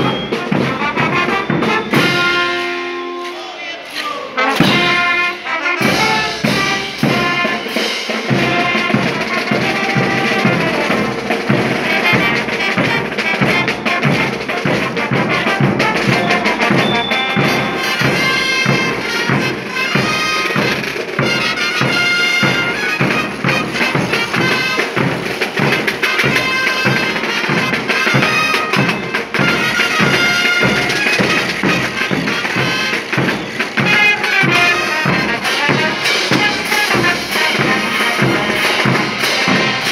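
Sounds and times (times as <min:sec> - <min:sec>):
brass band playing: 0:00.0 - 0:39.9.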